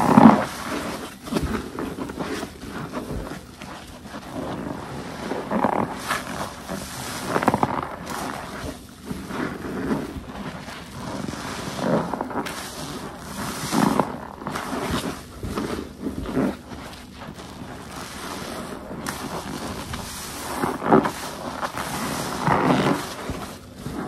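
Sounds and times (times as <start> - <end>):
sponge squelching water: 0.0 - 24.0.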